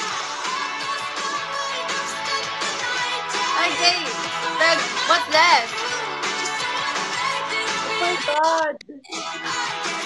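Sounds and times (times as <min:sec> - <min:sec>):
recorded song with steady beat: 0:00.0 - 0:10.0.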